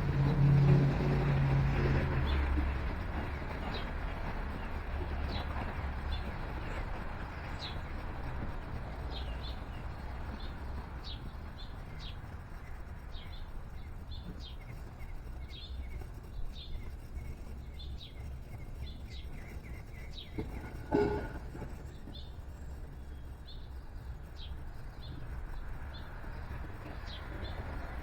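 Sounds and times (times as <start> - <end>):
small songbirds chirping: 2.1 - 28.0.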